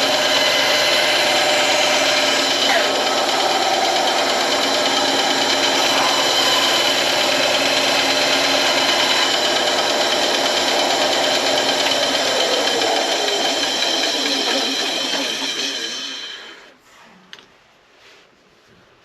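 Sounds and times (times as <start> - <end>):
power tool whining: 0.0 - 16.7.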